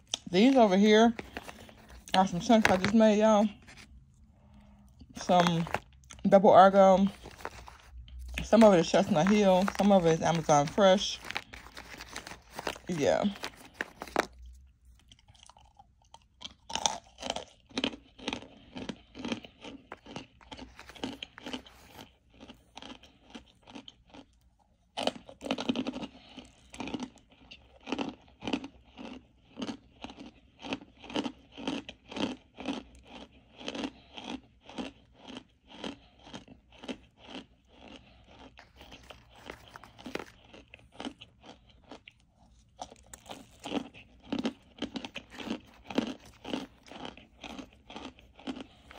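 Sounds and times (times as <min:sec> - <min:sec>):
crisp chewing crunches: 0:00.0 - 0:48.9.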